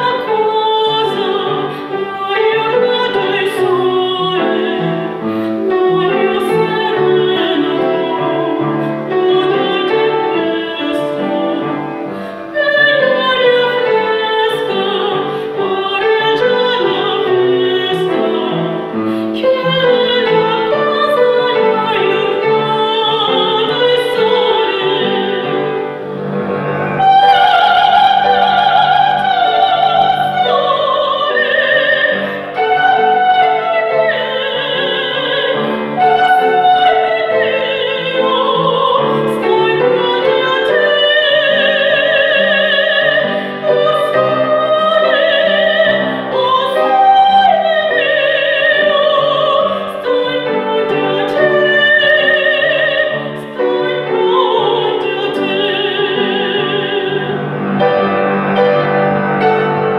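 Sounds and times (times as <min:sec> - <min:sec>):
woman singing operatically: 0:00.0 - 0:26.0, 0:26.8 - 0:57.8
piano accompaniment: 0:00.0 - 0:59.9.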